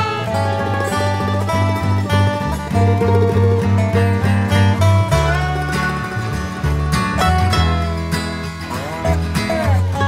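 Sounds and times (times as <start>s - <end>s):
country music with plucked strings: 0.0s - 10.0s
steady bass line: 0.0s - 10.0s.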